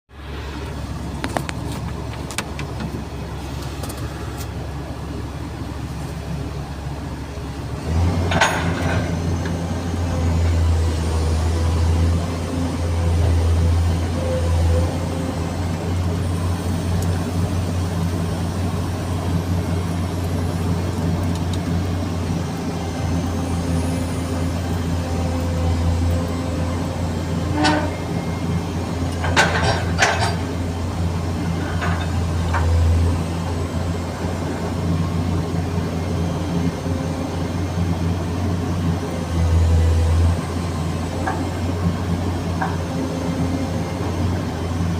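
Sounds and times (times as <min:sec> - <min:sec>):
excavator diesel engine drone: 0:00.1 - 0:44.9.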